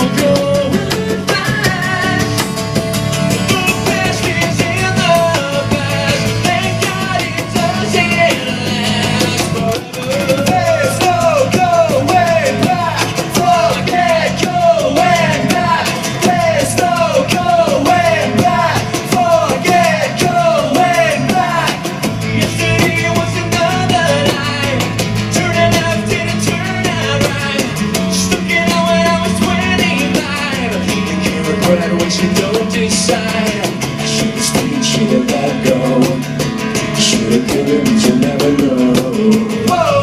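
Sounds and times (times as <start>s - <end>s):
acoustic rock band playing live: 0.0s - 40.0s
falling guitar phrases: 0.0s - 40.0s.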